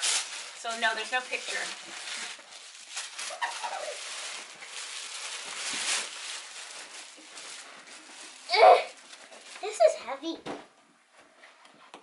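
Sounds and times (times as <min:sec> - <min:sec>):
tissue paper rustling: 0:00.0 - 0:10.0.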